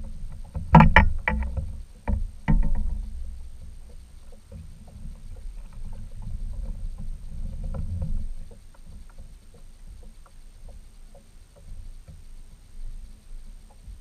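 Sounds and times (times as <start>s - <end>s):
low uneven rumble: 0.0s - 14.0s
small knocks and ticks: 0.0s - 14.0s
small waves lapping against kayak hull: 0.0s - 14.0s.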